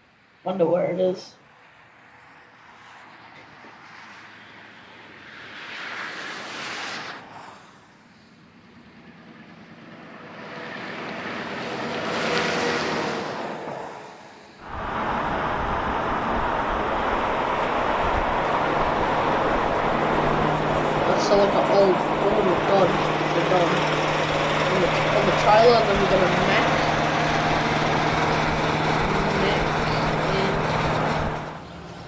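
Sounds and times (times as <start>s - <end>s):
heavy trucks driving past: 1.5s - 32.0s.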